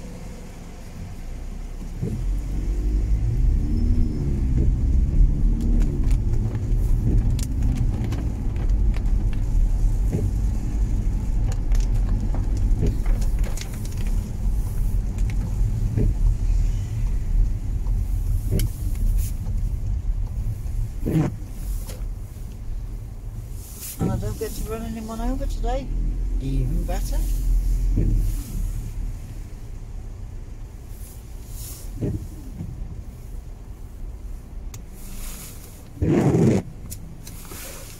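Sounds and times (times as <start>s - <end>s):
car engine and tyres rumbling: 0.0s - 37.9s.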